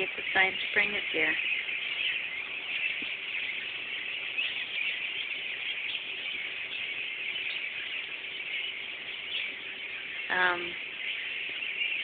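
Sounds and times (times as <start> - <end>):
faint steady hum: 0.0 - 12.0
flock of birds chirping: 0.0 - 12.0.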